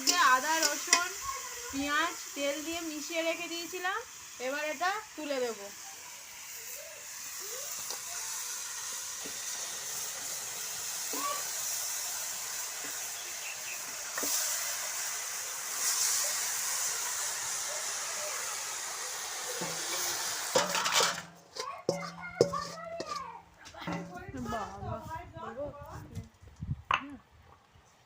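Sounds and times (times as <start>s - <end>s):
onions sizzling in hot oil: 0.0s - 24.8s.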